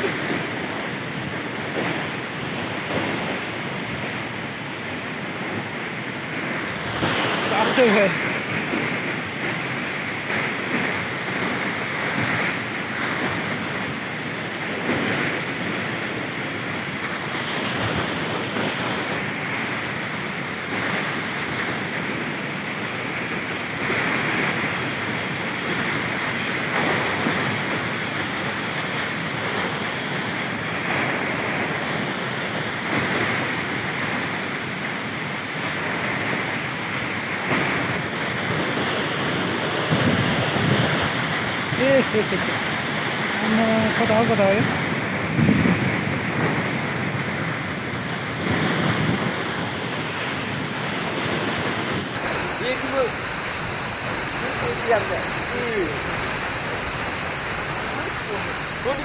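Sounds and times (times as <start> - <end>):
waterfall roar: 0.0 - 59.0
wind buffeting microphone: 0.0 - 59.0.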